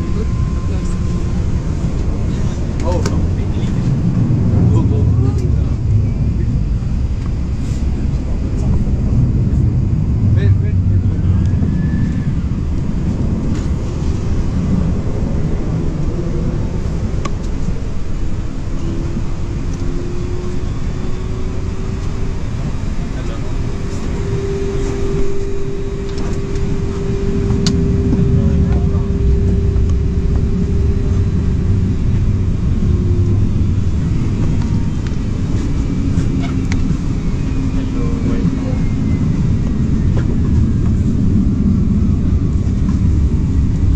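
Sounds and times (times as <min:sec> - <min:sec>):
aircraft low rumble: 0:00.0 - 0:43.9
faint steady hum: 0:00.0 - 0:43.9.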